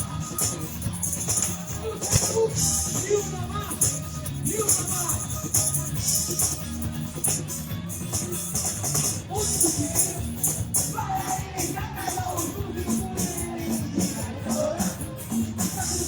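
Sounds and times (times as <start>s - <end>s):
live band music: 0.0s - 16.0s
shaker rattling: 0.0s - 16.0s.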